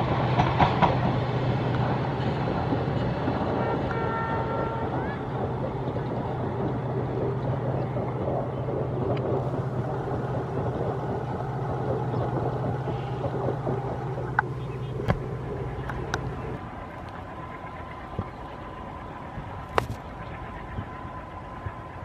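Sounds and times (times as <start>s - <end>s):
distant locomotive engine drone: 0.0s - 22.0s.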